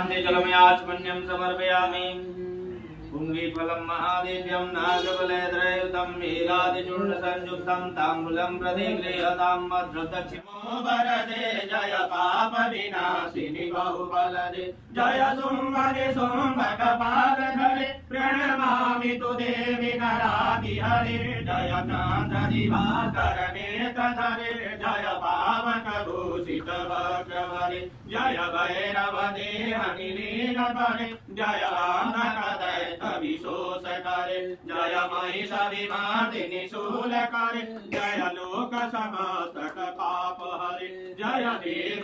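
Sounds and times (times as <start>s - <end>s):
men chanting together: 0.0s - 42.0s.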